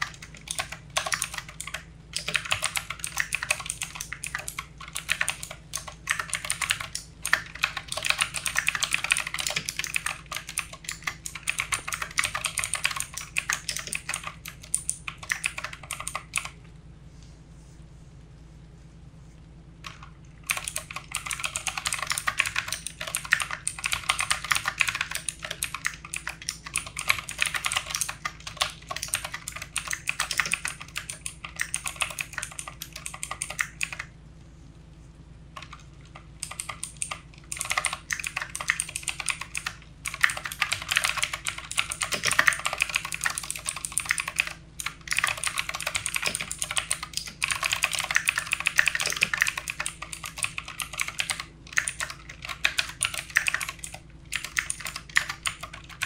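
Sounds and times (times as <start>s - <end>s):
fast typing on a keyboard: 0.0s - 16.6s, 19.8s - 34.1s, 35.6s - 56.0s.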